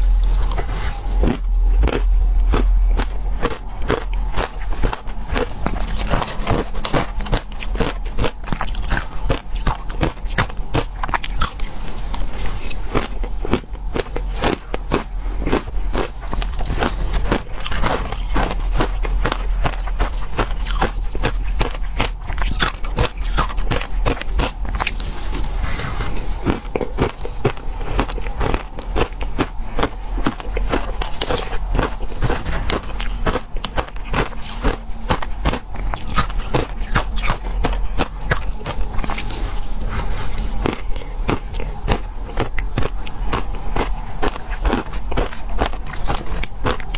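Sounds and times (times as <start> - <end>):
chewing crunchy shaved ice: 0.0 - 46.9.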